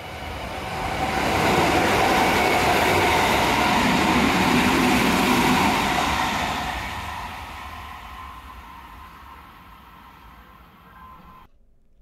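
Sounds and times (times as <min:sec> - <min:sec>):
train passing with whine: 0:00.0 - 0:11.5.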